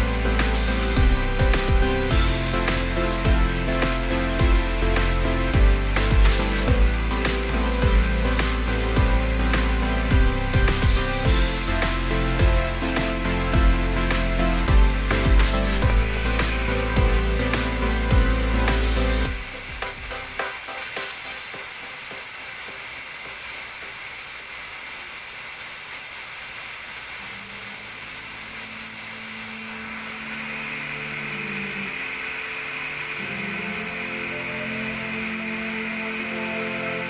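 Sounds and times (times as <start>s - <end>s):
music: 0.0s - 22.2s, 28.3s - 37.0s
mechanical blower hiss: 0.0s - 37.0s.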